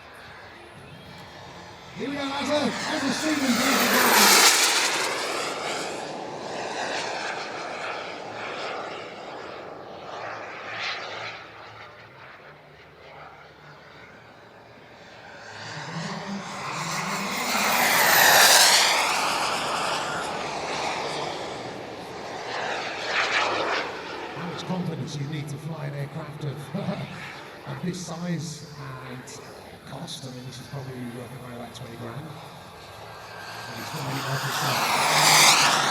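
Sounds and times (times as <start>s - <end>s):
high turbine whine: 0.0s - 35.9s
jet turbine engines rushing: 0.0s - 35.9s.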